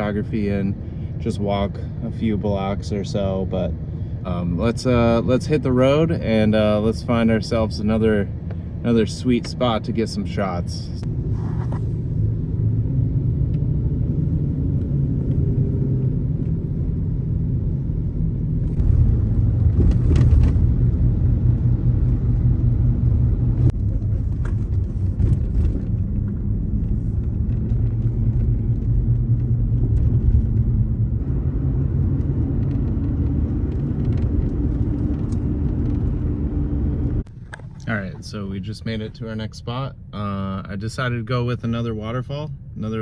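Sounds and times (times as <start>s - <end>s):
car engine and road rumble: 0.0s - 43.0s.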